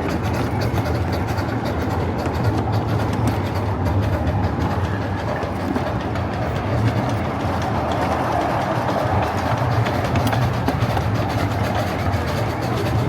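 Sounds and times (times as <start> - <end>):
train cars rumbling along track: 0.0 - 13.0
wheels clicking on rails: 0.0 - 13.0.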